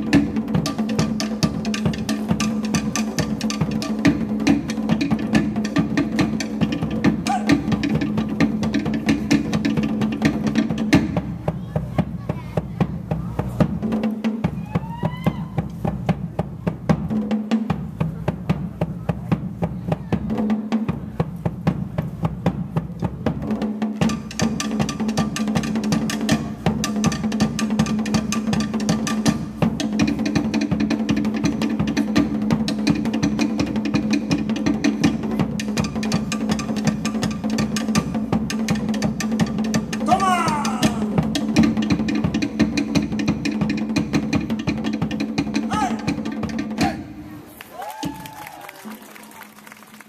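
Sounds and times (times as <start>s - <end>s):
fast drum rolls: 0.0s - 47.2s, 47.8s - 48.9s.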